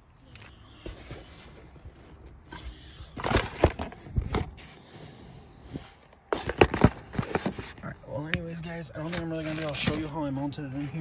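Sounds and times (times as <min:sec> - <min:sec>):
rummaging on a floor mat: 0:00.0 - 0:08.0, 0:09.0 - 0:11.0.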